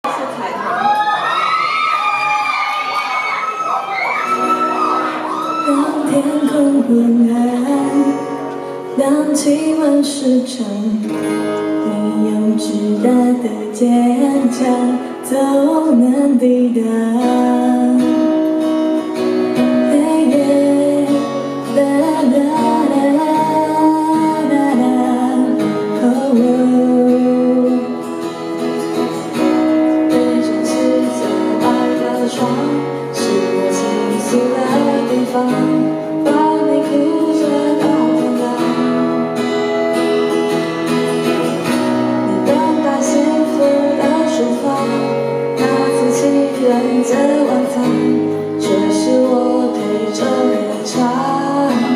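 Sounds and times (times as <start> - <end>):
acoustic guitar: 1.6 - 51.9
person singing: 4.3 - 51.9.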